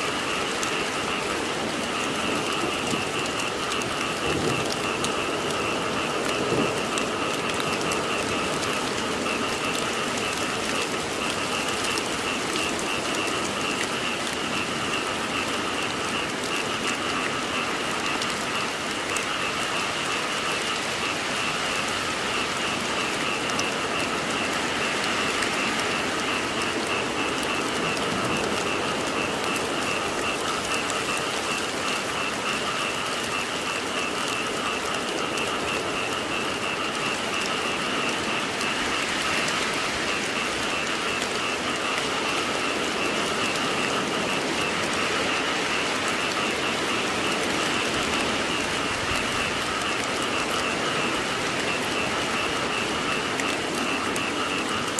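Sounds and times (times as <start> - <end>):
frogs calling: 0.0 - 54.9
steady rain falling: 0.0 - 54.9.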